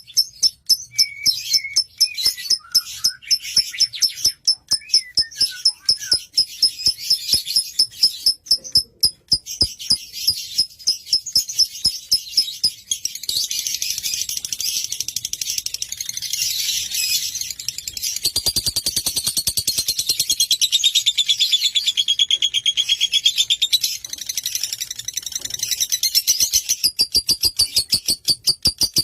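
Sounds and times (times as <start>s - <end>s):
lovebird chirping and trilling: 0.0s - 29.0s.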